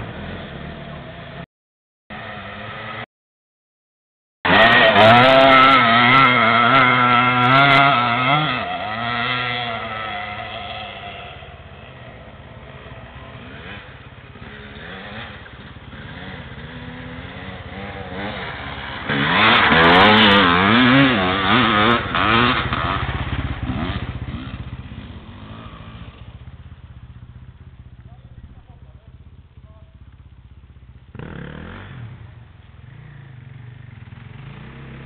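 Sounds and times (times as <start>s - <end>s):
dirt bike engine revving: 2.1s - 3.1s, 4.4s - 29.4s, 31.0s - 35.0s.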